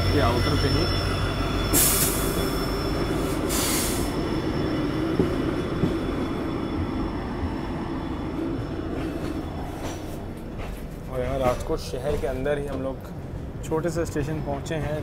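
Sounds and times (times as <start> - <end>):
train coach rumbling on track: 0.0 - 15.0.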